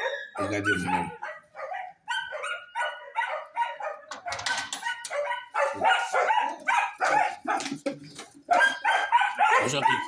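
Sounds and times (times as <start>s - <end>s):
dogs barking: 0.0s - 10.0s.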